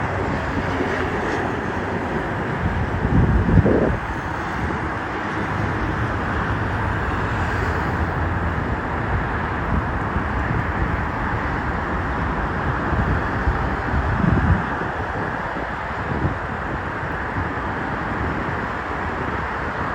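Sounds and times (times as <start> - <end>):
jet engines rushing: 0.0 - 19.9
wind buffeting microphone: 0.0 - 19.9.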